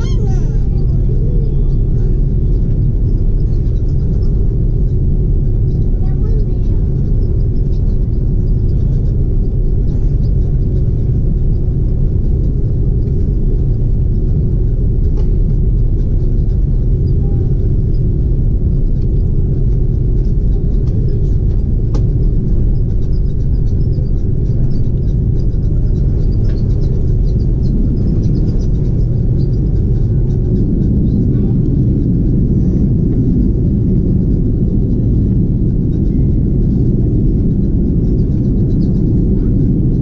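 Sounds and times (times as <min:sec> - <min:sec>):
jet engines at low thrust: 0:00.0 - 0:40.0
low rumble inside aircraft cabin: 0:00.0 - 0:40.0
steady hum: 0:00.0 - 0:40.0
wheels rolling on taxiway: 0:00.0 - 0:40.0.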